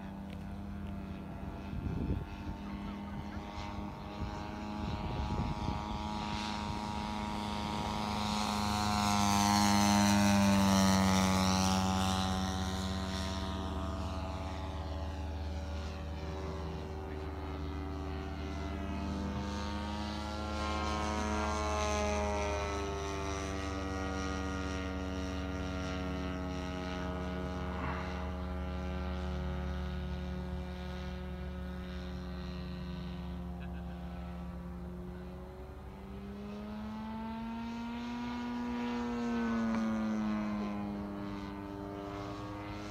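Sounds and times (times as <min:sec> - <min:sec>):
model plane engine flying overhead: 0:00.0 - 0:42.9.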